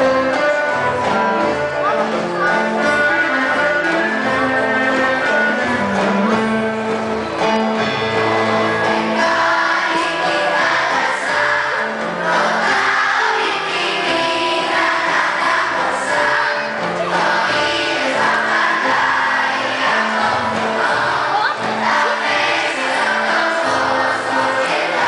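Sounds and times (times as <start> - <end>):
children's choir singing: 0.0 - 25.0
guitar: 0.0 - 25.0
violin: 0.0 - 25.0.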